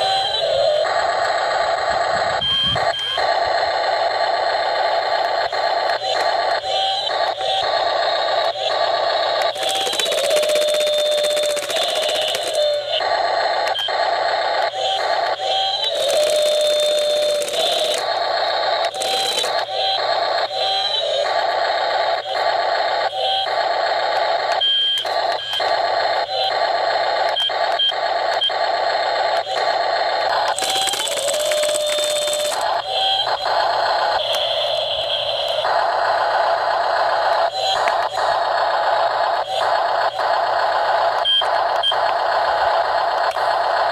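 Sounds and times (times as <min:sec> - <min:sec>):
electric hammer breaker chattering: 0:00.0 - 0:43.9
high motor whine: 0:00.0 - 0:43.9.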